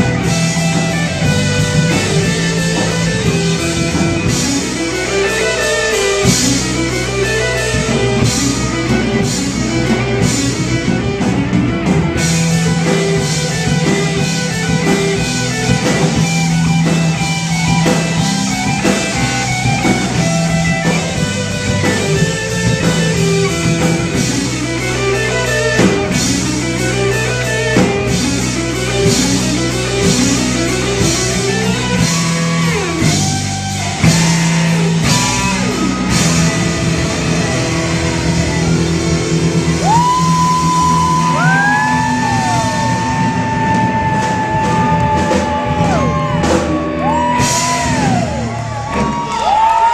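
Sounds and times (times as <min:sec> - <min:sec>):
live rock band: 0:00.0 - 0:49.9.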